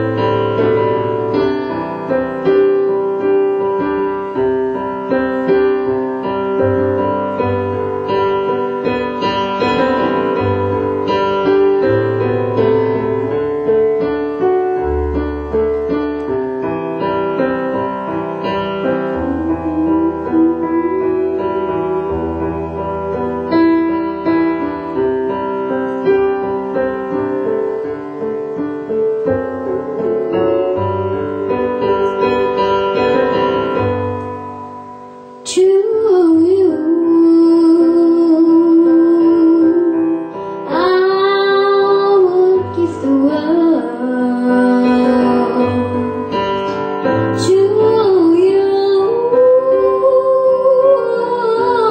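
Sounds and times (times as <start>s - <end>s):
slow piano chords: 0.0s - 51.9s.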